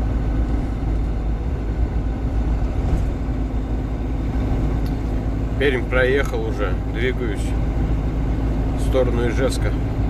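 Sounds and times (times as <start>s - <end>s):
diesel truck engine drone: 0.0s - 10.0s
road noise: 0.0s - 10.0s.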